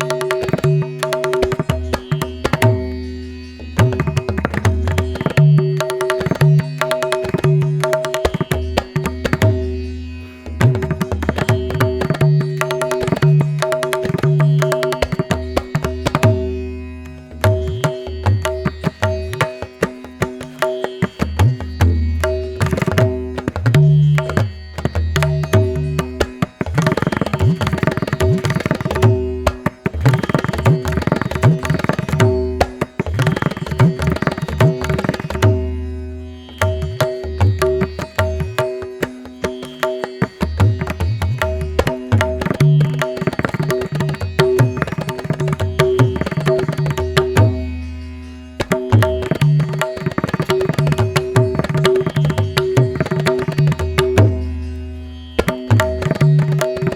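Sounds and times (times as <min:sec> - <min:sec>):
tabla-like drumming: 0:00.0 - 0:48.0, 0:48.6 - 0:56.9.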